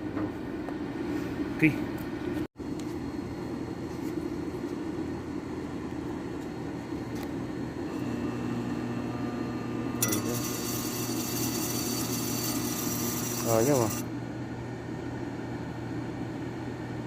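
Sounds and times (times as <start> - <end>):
low electrical hum: 0.0 - 17.0
steady mechanical noise: 0.0 - 17.0.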